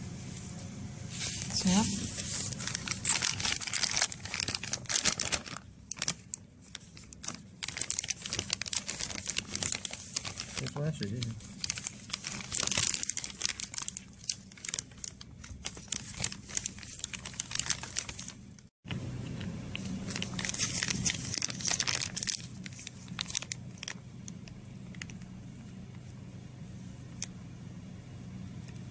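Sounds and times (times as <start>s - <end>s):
low steady hum: 0.0s - 28.9s
plastic film crinkling: 1.2s - 18.7s, 19.7s - 25.4s.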